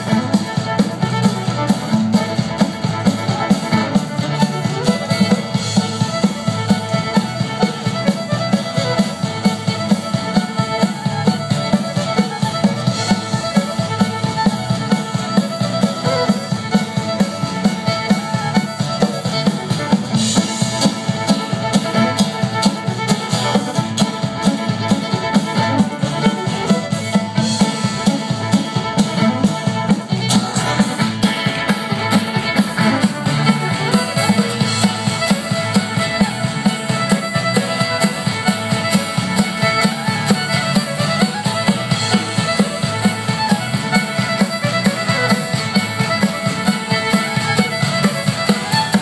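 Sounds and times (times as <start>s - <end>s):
fiddle: 0.0s - 49.0s
steady drum beat: 0.0s - 49.0s.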